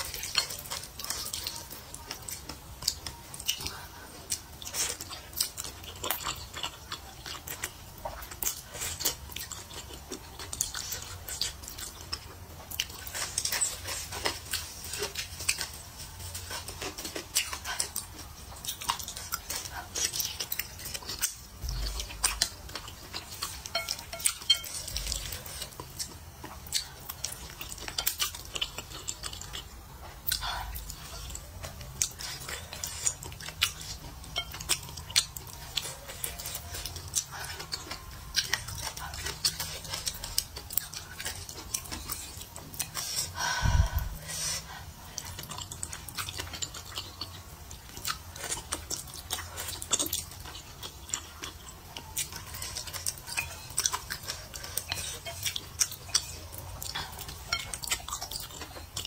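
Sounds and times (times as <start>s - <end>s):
chewing and slurping noodles: 0.0s - 59.0s.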